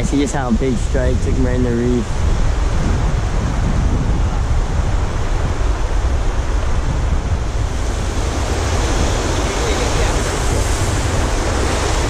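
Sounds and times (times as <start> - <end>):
ocean surf washing over rocks: 0.0 - 12.0
wind rumbling on microphone: 0.0 - 12.0.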